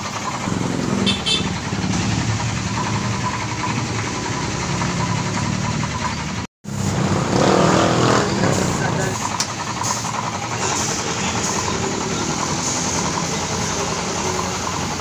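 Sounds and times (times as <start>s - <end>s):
vehicle engine idling: 0.0s - 7.5s, 8.1s - 15.0s.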